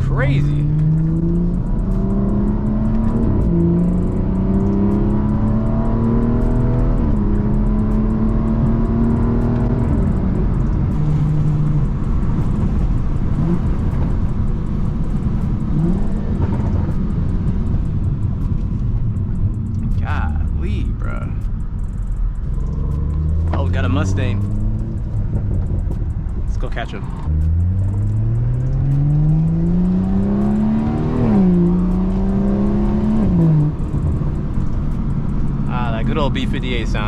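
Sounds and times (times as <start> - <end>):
car engine accelerating through gears: 0.0 - 37.0.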